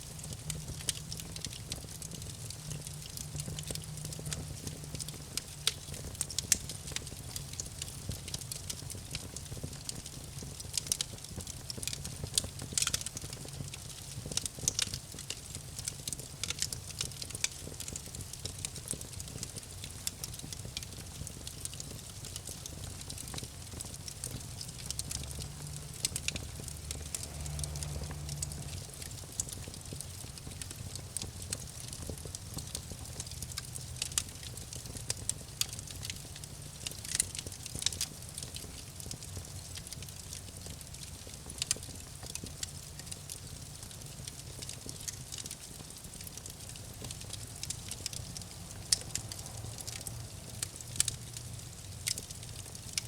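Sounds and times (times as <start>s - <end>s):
low rumble of flames: 0.0s - 53.0s
campfire crackling and popping: 0.1s - 53.0s.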